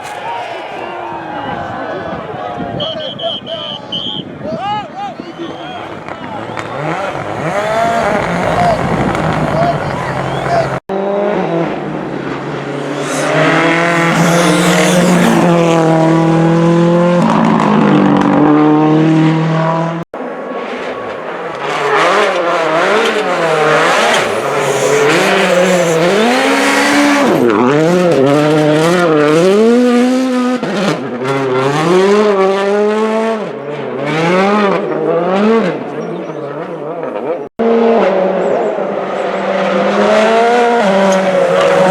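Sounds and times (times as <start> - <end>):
rally car engines revving: 5.4 - 41.9.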